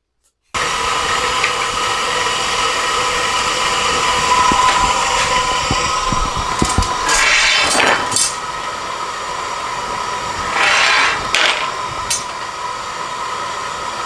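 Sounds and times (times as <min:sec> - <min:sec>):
burner air blower hissing: 0:00.6 - 0:14.0.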